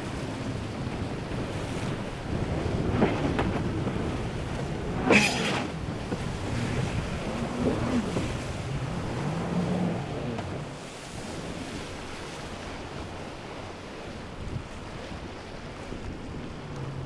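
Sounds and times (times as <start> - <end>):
jet ski engine: 0.0 - 17.0
surf rushing and splashing: 0.0 - 17.0.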